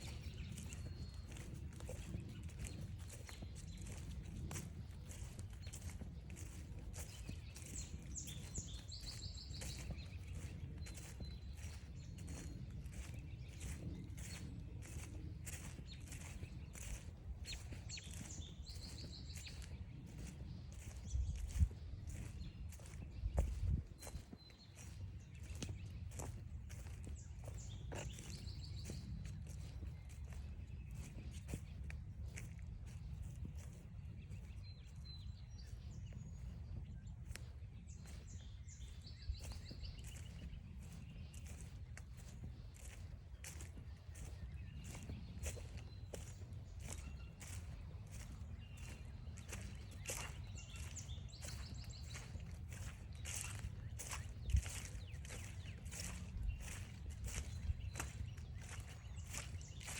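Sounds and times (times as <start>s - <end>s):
footsteps crunching on trail: 0.0s - 59.9s
songbirds chirping: 0.0s - 59.9s.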